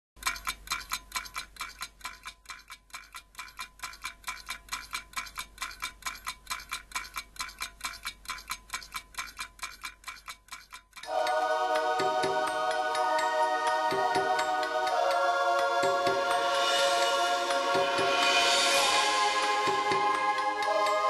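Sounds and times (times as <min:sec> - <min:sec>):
rapid timer ticking: 0:00.2 - 0:21.0.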